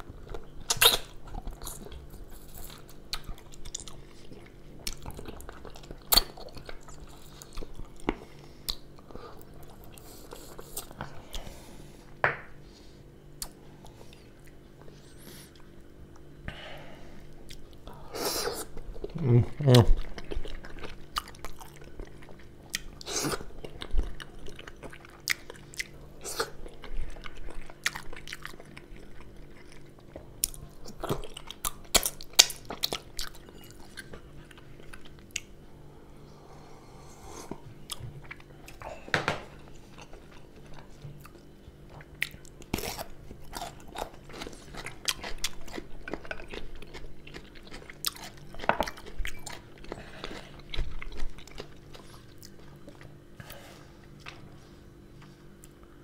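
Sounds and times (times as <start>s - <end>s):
chewing and biting food: 0.0s - 11.4s, 18.6s - 35.6s, 37.5s - 38.9s, 39.5s - 56.0s
faint low hum: 0.0s - 56.0s.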